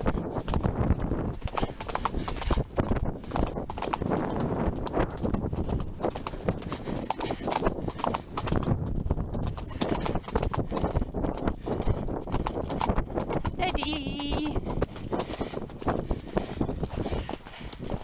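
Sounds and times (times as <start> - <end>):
horse hoofbeats on muddy track: 0.0 - 18.0.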